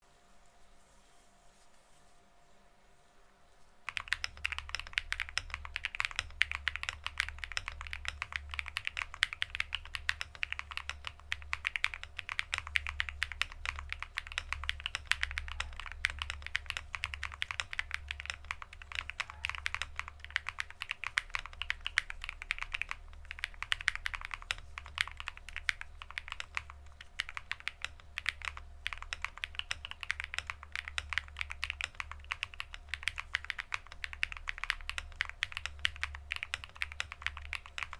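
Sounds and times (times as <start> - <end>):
fast mechanical keyboard typing: 3.8 - 37.9.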